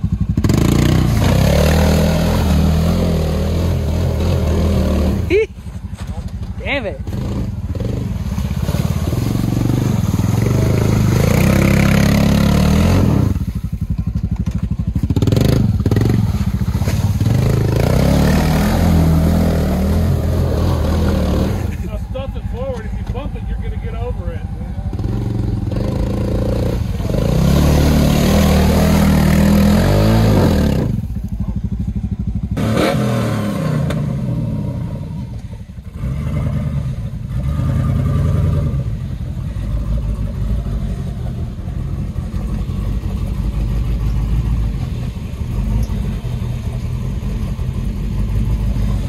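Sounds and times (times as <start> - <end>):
utility vehicle engine revving: 0.0 - 49.0.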